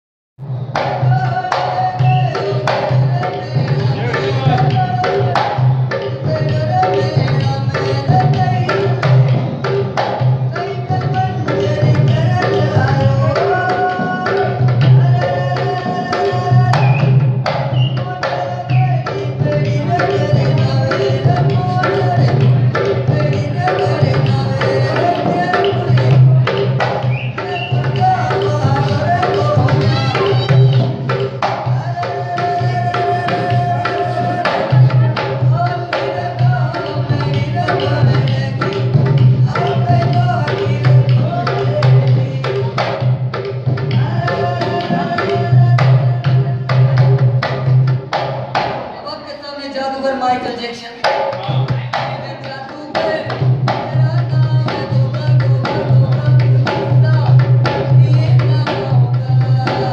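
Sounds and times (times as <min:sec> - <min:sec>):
hand drum beating: 0:00.7 - 0:48.9, 0:51.0 - 0:59.9.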